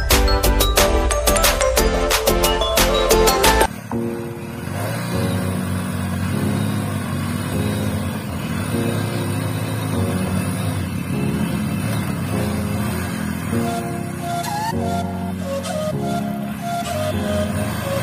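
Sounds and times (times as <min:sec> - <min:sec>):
motorcycle engines droning under load: 0:01.6 - 0:18.0.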